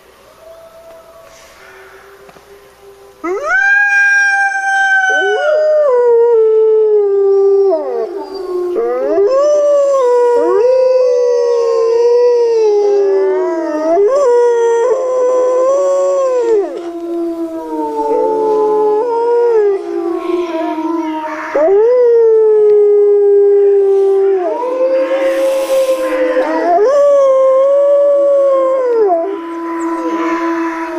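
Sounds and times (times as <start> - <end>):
wolves howling: 0.0 - 30.9.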